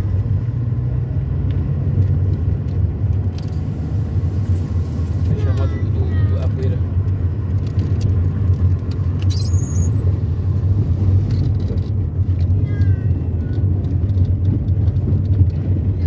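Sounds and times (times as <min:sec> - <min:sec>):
car rumbling on dirt road: 0:00.0 - 0:16.0.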